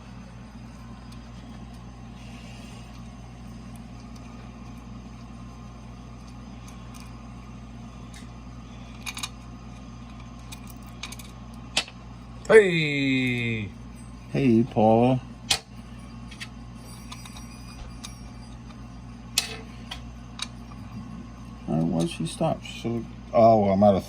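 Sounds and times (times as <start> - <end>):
machinery hum: 0.0 - 24.0.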